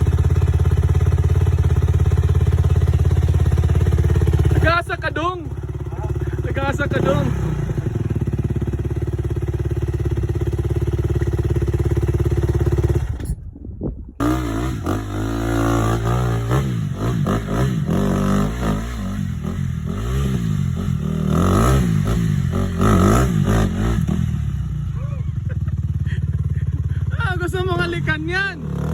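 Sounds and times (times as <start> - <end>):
dirt bike engine revving: 0.0 - 13.3, 14.2 - 28.9.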